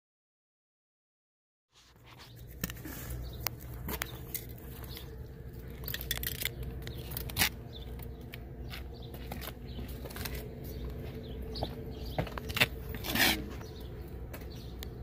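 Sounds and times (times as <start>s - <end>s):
low hum: 2.0s - 15.0s.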